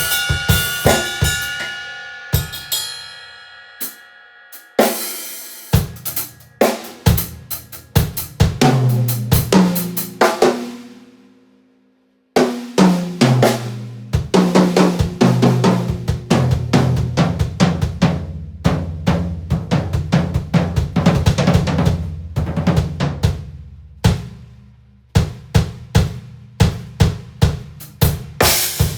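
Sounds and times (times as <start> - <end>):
drum kit playing: 0.0 - 11.1, 12.4 - 28.9.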